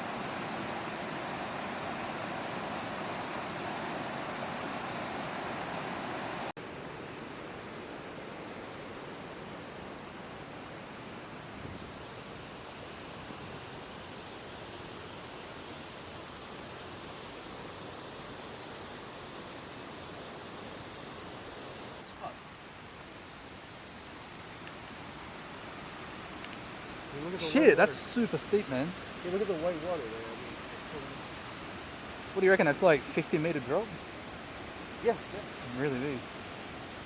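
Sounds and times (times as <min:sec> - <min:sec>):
white water rushing in river: 0:00.0 - 0:37.0.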